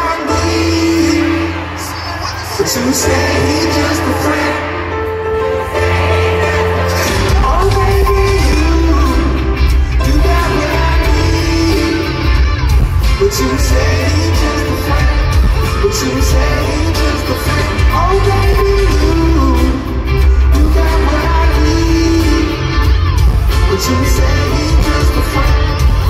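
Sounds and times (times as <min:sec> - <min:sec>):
loud band with heavy bass: 0:00.0 - 0:26.0
man singing into microphone: 0:00.0 - 0:26.0.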